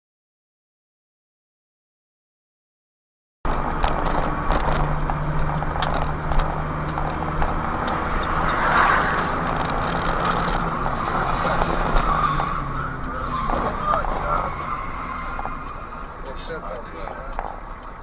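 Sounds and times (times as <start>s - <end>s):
road rushing noise: 3.5s - 18.0s
vehicle engine hum: 3.5s - 18.0s.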